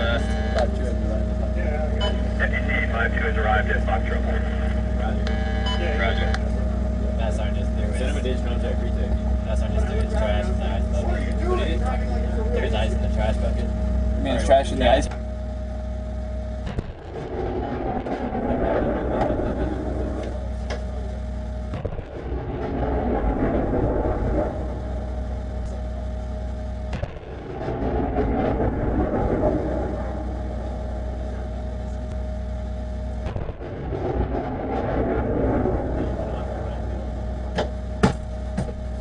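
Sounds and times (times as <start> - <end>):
diesel truck engine running: 0.0 - 39.0.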